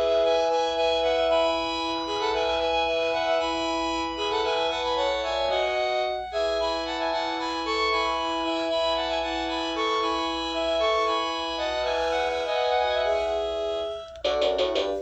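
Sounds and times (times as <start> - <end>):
phone ringtone melody: 0.0 - 15.0.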